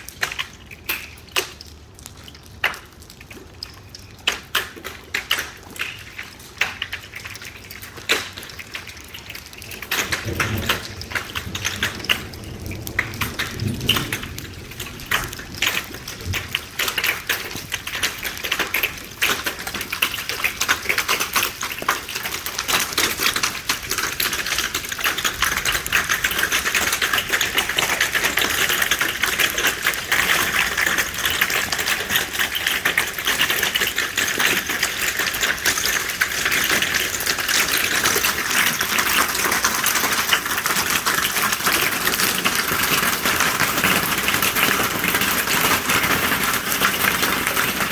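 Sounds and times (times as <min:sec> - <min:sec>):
hailstones striking hard surfaces: 0:00.0 - 0:47.9.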